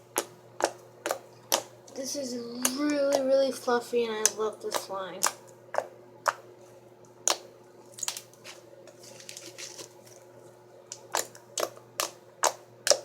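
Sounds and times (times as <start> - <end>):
slime squishing: 0.0 - 13.0.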